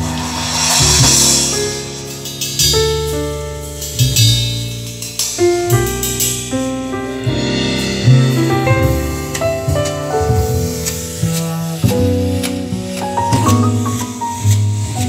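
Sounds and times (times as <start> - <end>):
music with strong bass line: 0.0 - 15.0.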